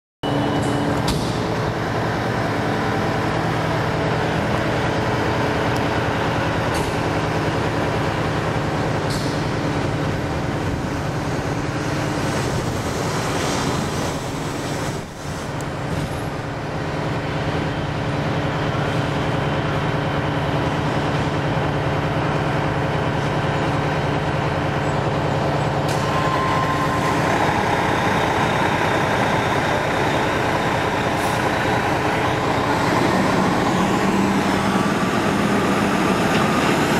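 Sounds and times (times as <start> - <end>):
diesel engine idling: 0.3 - 13.0, 14.6 - 36.9.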